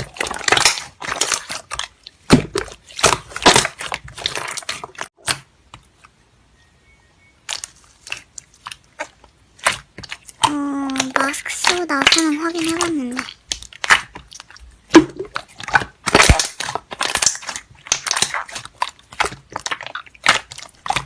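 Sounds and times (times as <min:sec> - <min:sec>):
slime crackling and popping: 0:00.0 - 0:06.0, 0:07.4 - 0:21.0.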